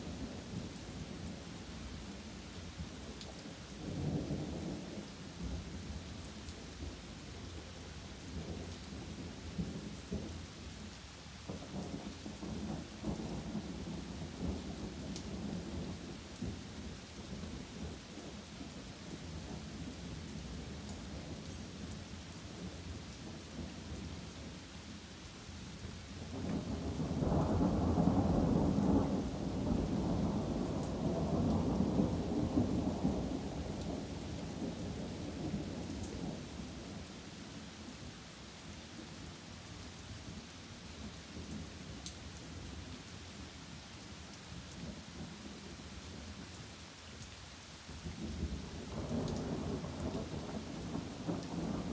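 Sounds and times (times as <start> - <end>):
rain falling through trees: 0.0 - 51.9.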